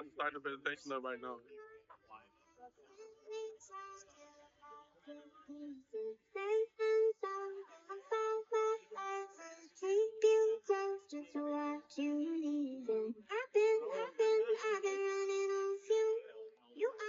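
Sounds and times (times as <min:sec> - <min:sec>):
high voice singing slow melody: 0:02.7 - 0:17.0.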